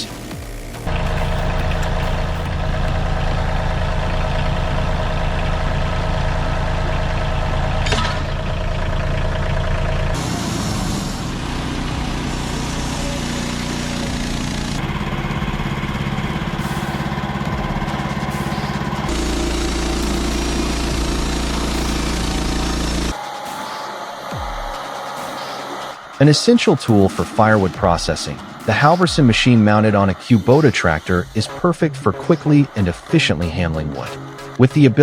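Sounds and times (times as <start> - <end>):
heavy machine engines running: 0.2 - 35.0.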